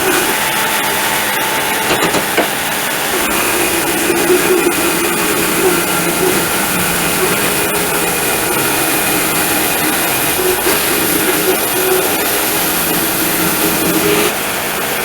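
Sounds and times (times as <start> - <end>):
saw hissing: 0.0 - 14.3
sawmill machine hum: 0.0 - 15.0.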